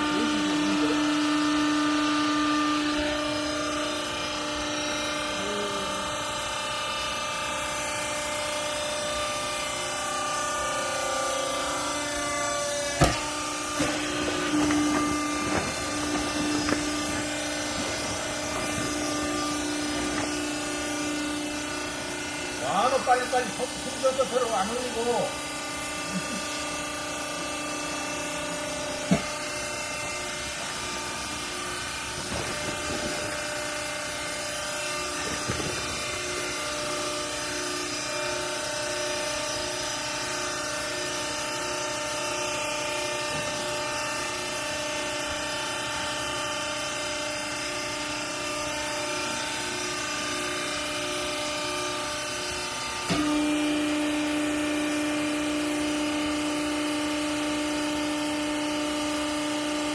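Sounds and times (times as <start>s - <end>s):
hydraulic motor and pump whining: 0.0s - 59.9s.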